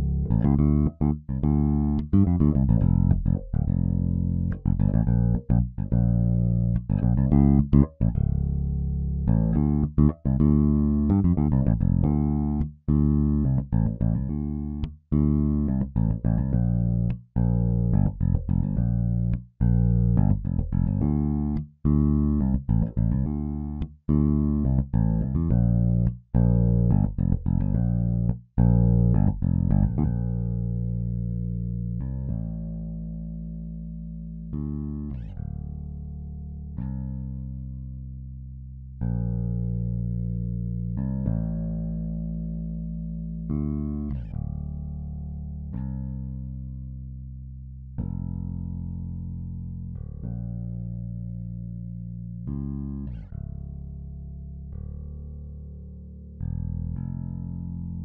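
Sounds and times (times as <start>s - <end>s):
electric bass playing groove: 0.0s - 58.0s.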